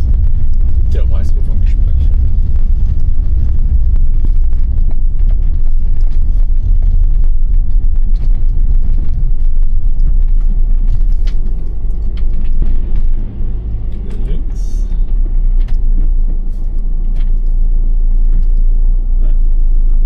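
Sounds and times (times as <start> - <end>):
engine and tyres rumbling: 0.0 - 20.0.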